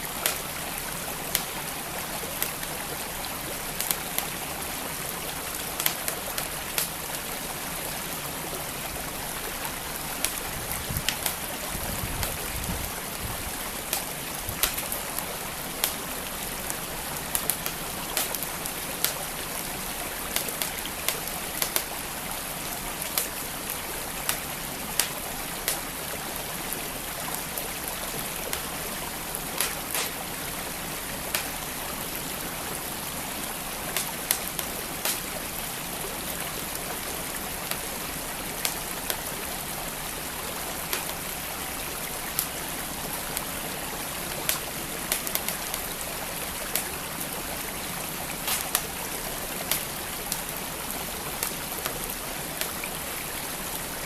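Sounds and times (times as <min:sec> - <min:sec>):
wood fire crackling and popping: 0:00.0 - 0:53.0
stream flowing: 0:00.0 - 0:54.0.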